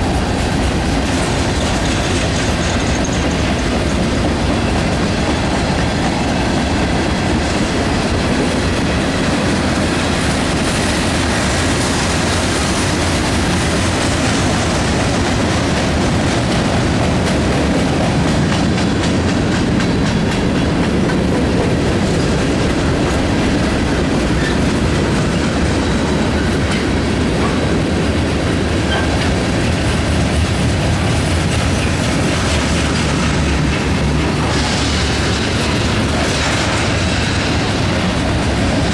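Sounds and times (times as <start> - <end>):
railroad cars rolling past: 0.0 - 38.9
wheels clacking over rail joints: 0.0 - 38.9.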